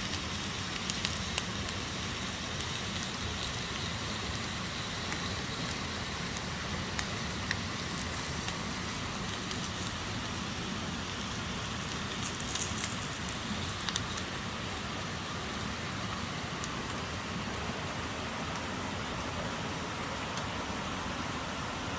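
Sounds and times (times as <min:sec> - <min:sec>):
bacon and eggs sizzling in a pan: 0:00.0 - 0:20.5.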